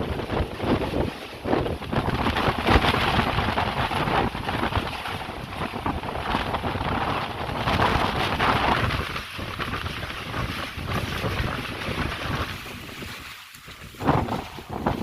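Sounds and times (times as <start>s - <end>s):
strong gusting wind: 0.0s - 15.0s.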